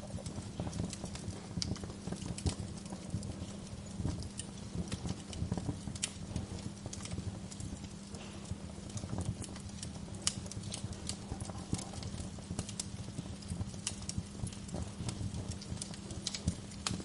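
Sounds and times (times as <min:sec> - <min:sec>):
fire low rumble: 0:00.0 - 0:17.0
wood fire popping and snapping: 0:00.0 - 0:17.0.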